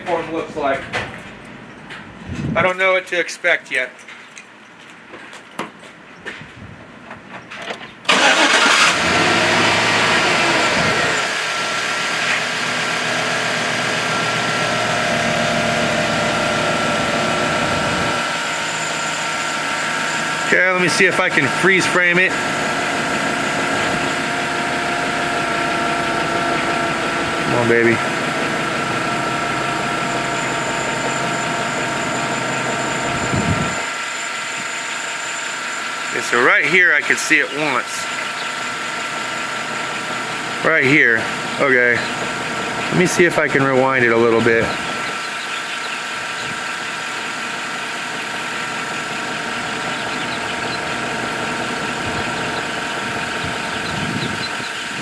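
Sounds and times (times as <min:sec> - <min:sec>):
truck engine idling: 0:08.1 - 0:55.0.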